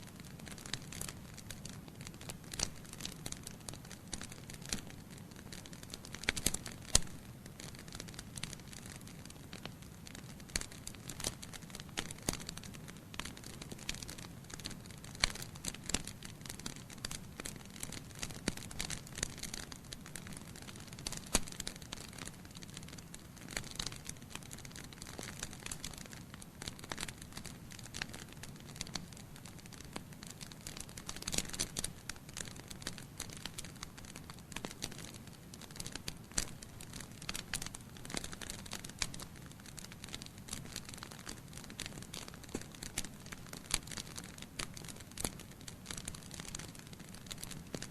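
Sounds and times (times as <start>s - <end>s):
wood fire crackling: 0.1s - 47.9s.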